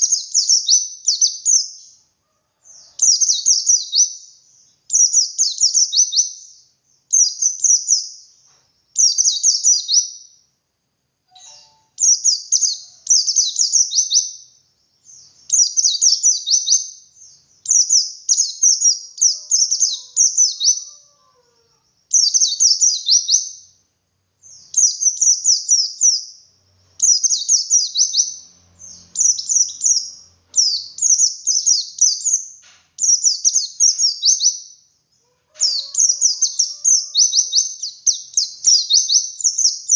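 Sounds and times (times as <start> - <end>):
bird twittering song: 0.0 - 10.5, 11.3 - 39.9.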